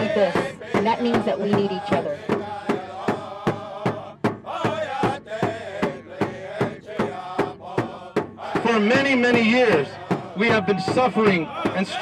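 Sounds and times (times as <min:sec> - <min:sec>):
drum beating steadily: 0:00.0 - 0:12.0
voices singing a chant: 0:00.0 - 0:12.0.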